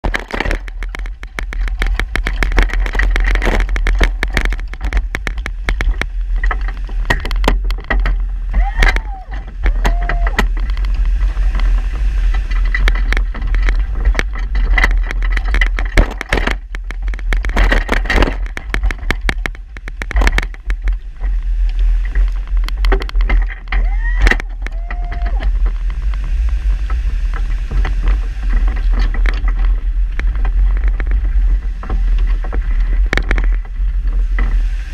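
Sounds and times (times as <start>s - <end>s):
plow frame and chains rattling: 0.0s - 34.9s
wind buffeting microphone: 0.0s - 34.9s.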